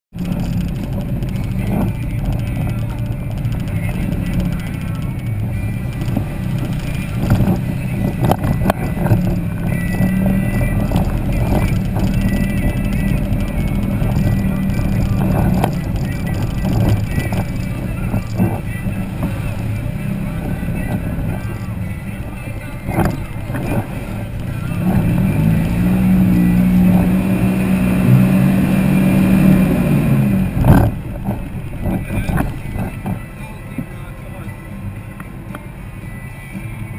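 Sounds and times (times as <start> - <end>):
off-road vehicle engine running: 0.1 - 36.9.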